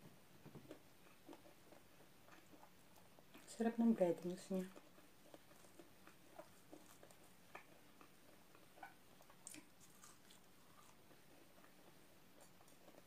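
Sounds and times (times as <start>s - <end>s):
chewing crispy food: 0.6s - 13.0s.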